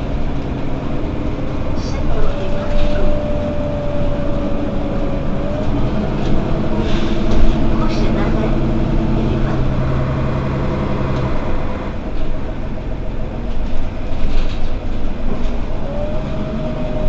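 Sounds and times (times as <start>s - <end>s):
bus engine hum: 0.0s - 17.0s
rough rumbling rattling noise: 0.0s - 17.0s.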